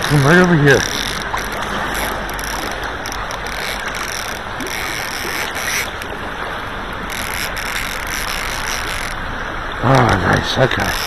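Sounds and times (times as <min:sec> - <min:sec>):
river current rushing: 0:00.0 - 0:11.0
water splashes: 0:00.0 - 0:11.0.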